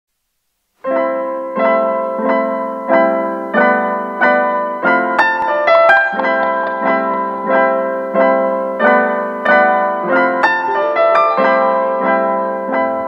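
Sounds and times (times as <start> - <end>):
piano notes and chords: 0.8 - 13.0.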